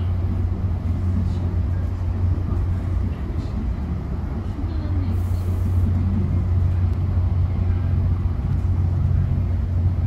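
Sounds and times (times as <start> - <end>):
train coach rumbling: 0.0 - 10.0.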